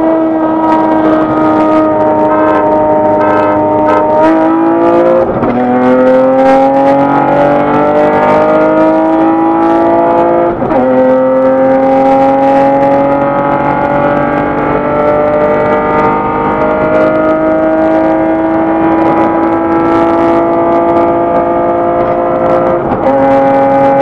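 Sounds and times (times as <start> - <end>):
car engine at full throttle: 0.0 - 24.0
gear upshift: 0.0 - 24.0.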